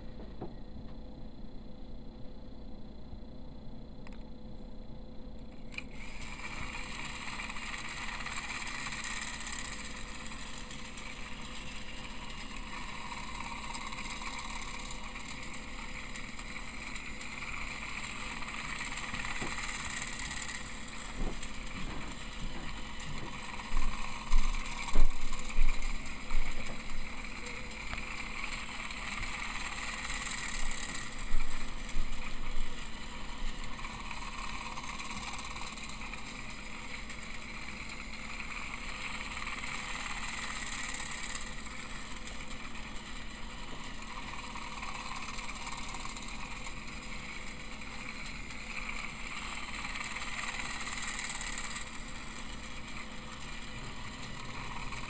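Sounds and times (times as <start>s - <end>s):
toy train motor whirring: 5.5s - 55.0s
toy train wheels rattling: 5.7s - 55.0s.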